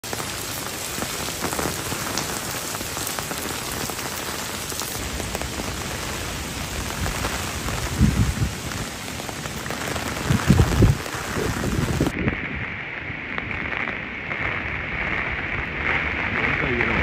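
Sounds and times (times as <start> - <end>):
heavy rain pouring on streets: 0.0 - 17.0
wind rumbling on microphone: 0.3 - 17.0.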